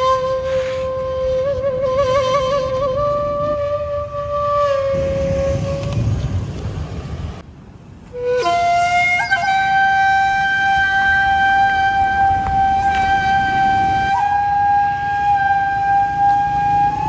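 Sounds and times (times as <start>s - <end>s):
flute-like music: 0.0s - 6.6s, 8.0s - 17.0s.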